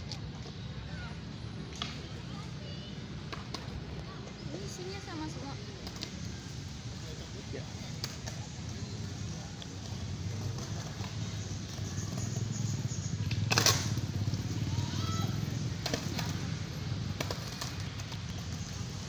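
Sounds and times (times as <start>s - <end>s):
skateboards rolling on concrete: 0.0s - 19.0s
skateboards clacking on ground: 1.6s - 6.6s, 7.7s - 19.0s.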